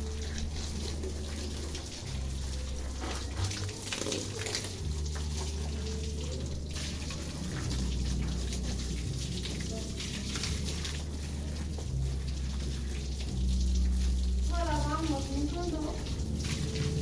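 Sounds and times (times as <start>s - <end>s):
water spraying and splashing: 0.0s - 17.0s.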